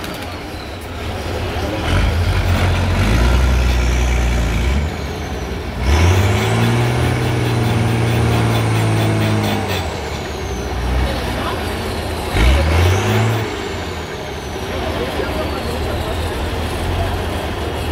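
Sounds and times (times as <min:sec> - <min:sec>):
truck engine labouring in mud: 0:00.0 - 0:17.9.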